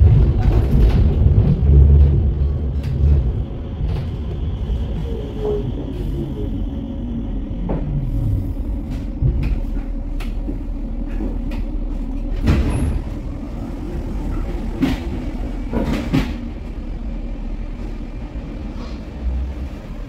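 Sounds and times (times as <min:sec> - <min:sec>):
tram rumbling on track: 0:00.0 - 0:20.0.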